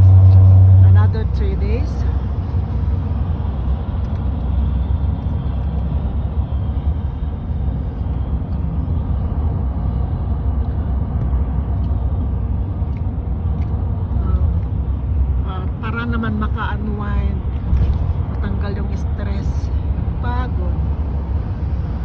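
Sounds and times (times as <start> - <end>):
vehicle road and engine rumble: 0.0 - 22.0.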